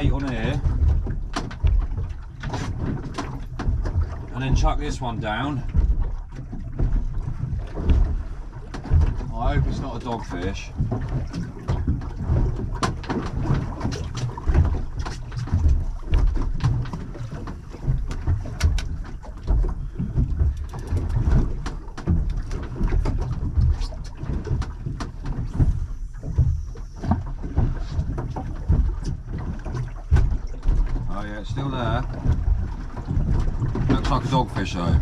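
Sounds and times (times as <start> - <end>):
water sloshing against boat: 0.0 - 35.0
wind buffeting microphone: 0.0 - 35.0.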